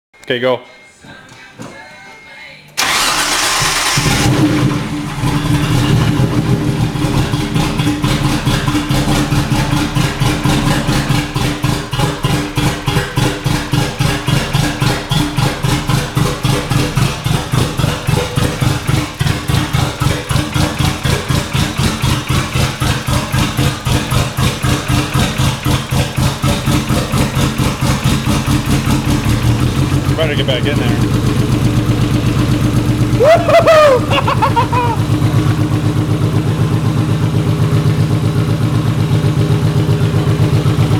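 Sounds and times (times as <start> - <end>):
car engine idling: 2.8 - 40.9.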